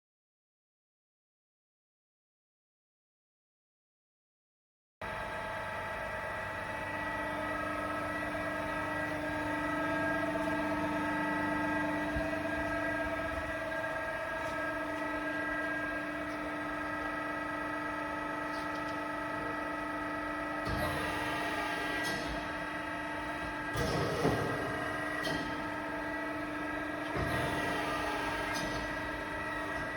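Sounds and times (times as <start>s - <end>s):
hydraulic pump hum: 5.0s - 29.9s.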